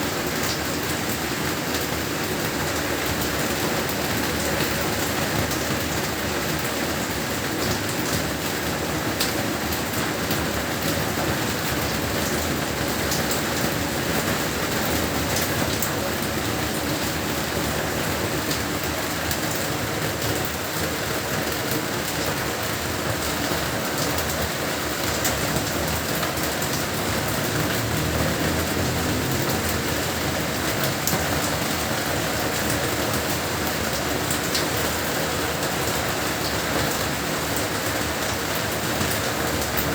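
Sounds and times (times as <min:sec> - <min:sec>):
heavy rain hiss: 0:00.0 - 0:39.9
raindrops ticking on a surface: 0:00.1 - 0:39.9.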